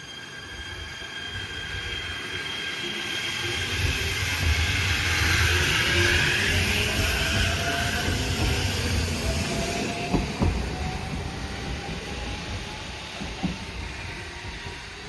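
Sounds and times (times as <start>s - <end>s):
electric train pulling away: 0.0s - 15.0s.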